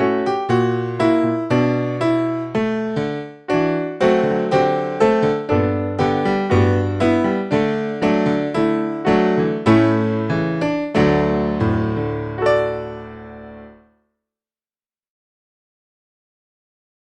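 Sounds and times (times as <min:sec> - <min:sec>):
piano chords: 0:00.0 - 0:13.9.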